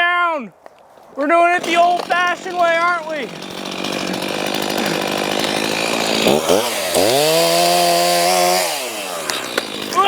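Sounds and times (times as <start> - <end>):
chainsaw cutting wood: 1.0 - 10.0.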